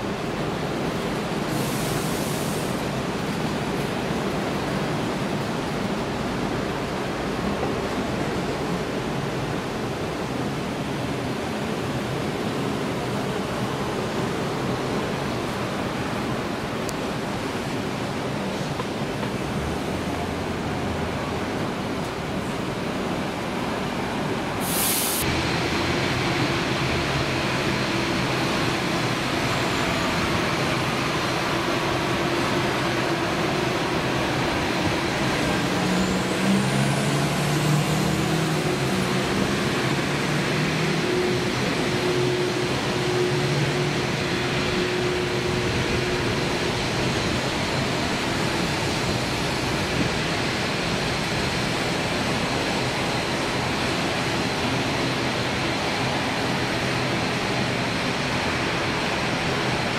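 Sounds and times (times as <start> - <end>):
jet engine roar during takeoff: 0.0 - 59.9.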